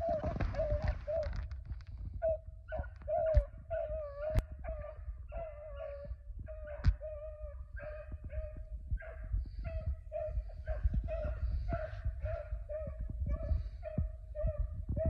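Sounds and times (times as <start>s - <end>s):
dogs baying: 2.2s - 14.8s.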